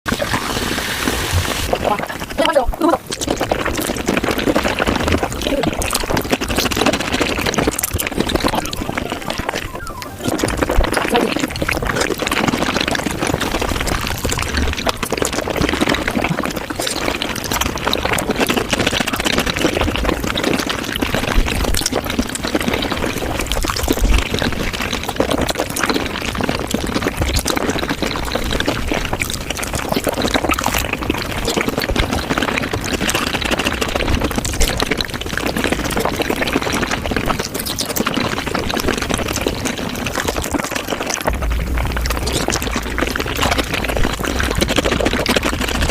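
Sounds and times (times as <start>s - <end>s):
wet chewing and slurping: 0.0s - 45.9s.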